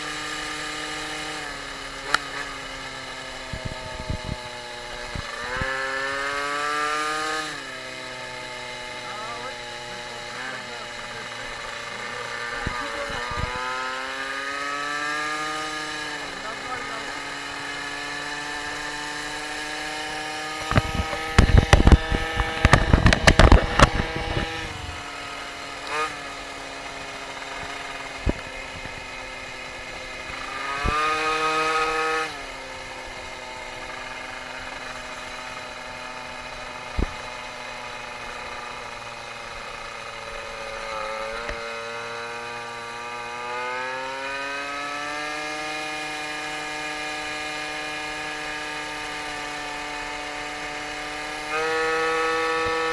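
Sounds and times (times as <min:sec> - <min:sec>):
two-stroke moped engine running: 0:00.0 - 0:52.9.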